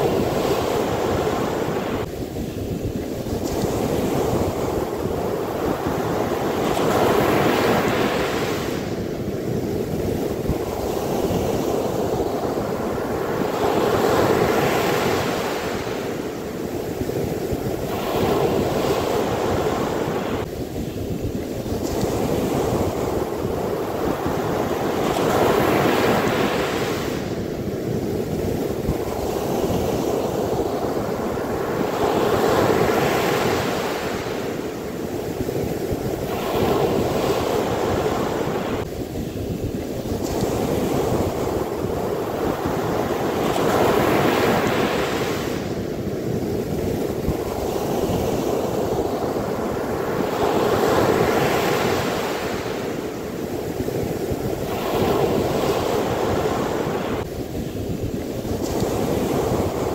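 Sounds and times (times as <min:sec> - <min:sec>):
waves breaking on sandy beach: 0:00.0 - 0:59.9
wind rumbling on microphone: 0:00.0 - 0:59.9.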